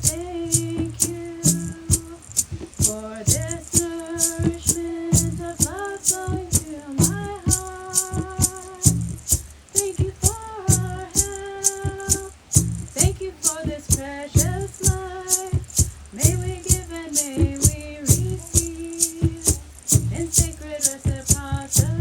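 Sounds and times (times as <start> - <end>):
hand rattle shaken: 0.0 - 22.0.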